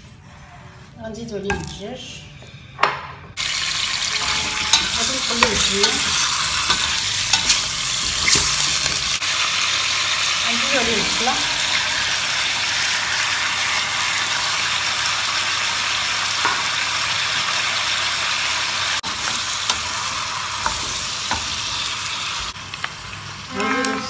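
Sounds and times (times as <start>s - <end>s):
food sizzling in hot oil: 3.4s - 24.0s.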